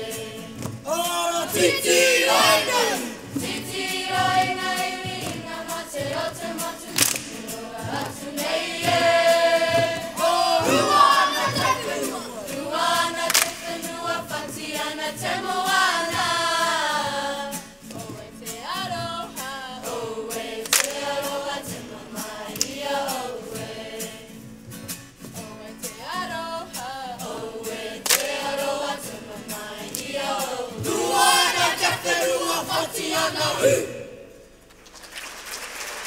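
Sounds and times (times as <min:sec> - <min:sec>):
children singing together: 0:00.0 - 0:00.7, 0:01.4 - 0:24.3, 0:26.0 - 0:34.1.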